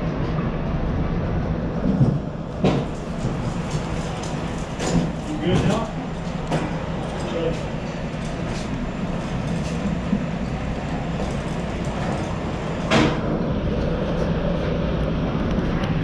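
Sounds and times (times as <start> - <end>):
low indoor rumble: 0.0 - 16.0.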